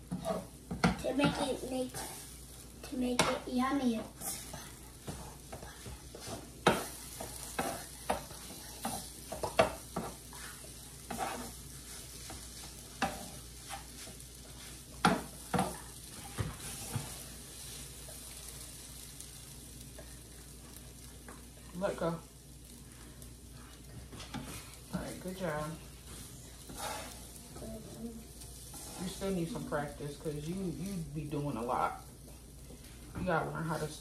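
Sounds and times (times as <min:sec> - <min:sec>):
eggs sizzling on a griddle: 0:00.0 - 0:34.0
spatula scraping and tapping griddle: 0:00.0 - 0:34.0.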